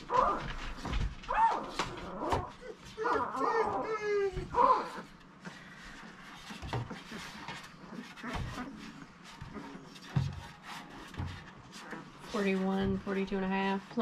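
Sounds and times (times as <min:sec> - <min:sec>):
paws scratching on plastic tray: 0:00.0 - 0:14.0.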